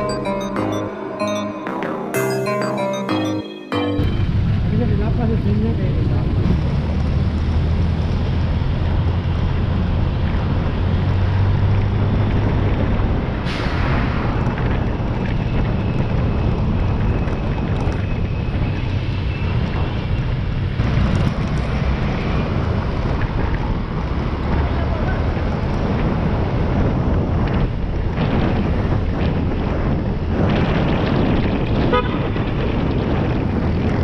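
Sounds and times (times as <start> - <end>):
road and wind noise: 4.1 - 34.0
vehicle engine hum: 4.2 - 34.0.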